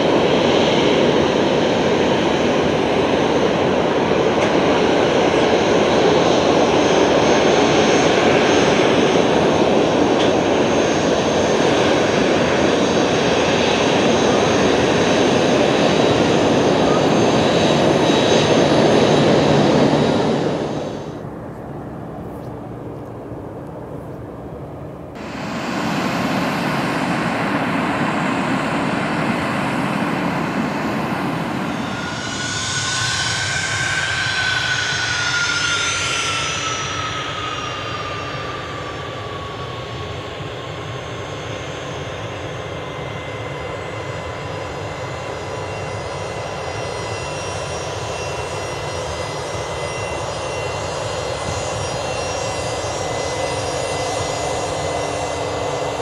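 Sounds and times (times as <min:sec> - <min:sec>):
jet engines whining while taxiing: 0:00.0 - 0:56.0.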